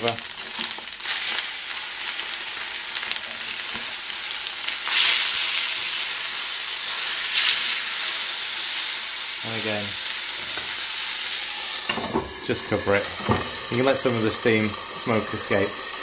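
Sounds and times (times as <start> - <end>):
fish frying in a pan: 0.0 - 16.0.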